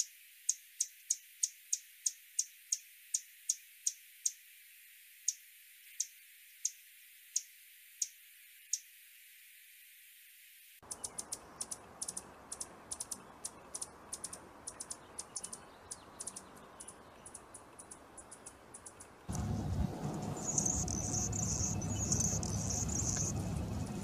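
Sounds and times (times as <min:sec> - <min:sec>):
hummingbird ticking chip notes: 0:00.0 - 0:04.4, 0:05.2 - 0:08.9, 0:10.8 - 0:24.0
high scratchy buzzing birdsong: 0:00.0 - 0:24.0.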